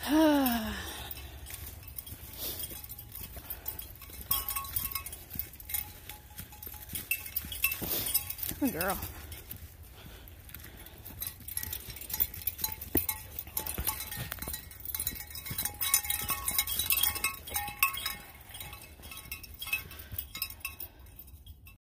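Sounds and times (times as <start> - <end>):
light metallic clinking: 0.0 - 21.8
footsteps crunching through dry leaves: 0.3 - 19.1.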